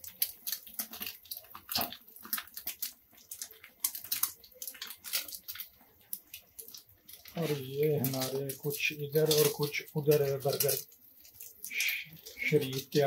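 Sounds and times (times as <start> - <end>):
egg frying in oil: 0.0 - 13.0.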